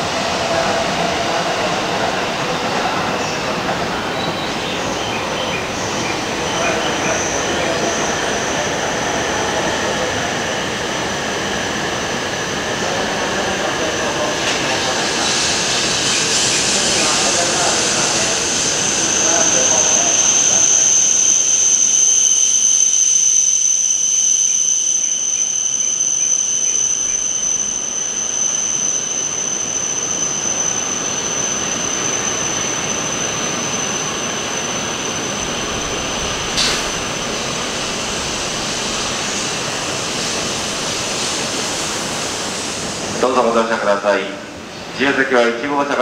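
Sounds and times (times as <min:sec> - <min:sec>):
train rushing with high whine: 0:00.0 - 0:46.0.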